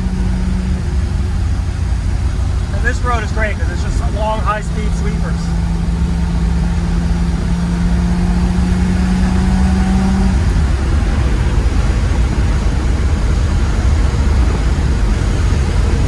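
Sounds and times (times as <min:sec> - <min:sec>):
car engine rumbling at speed: 0:00.0 - 0:16.0
road noise: 0:00.0 - 0:16.0.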